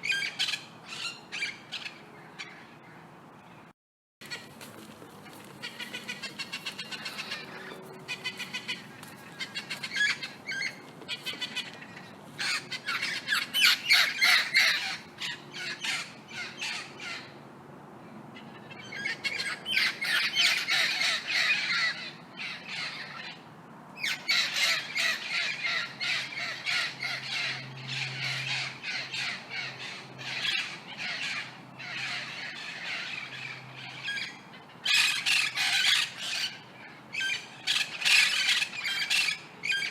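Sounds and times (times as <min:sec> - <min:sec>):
parrots squawking: 0:00.0 - 0:02.6, 0:05.6 - 0:17.3, 0:18.4 - 0:23.4, 0:24.0 - 0:39.9.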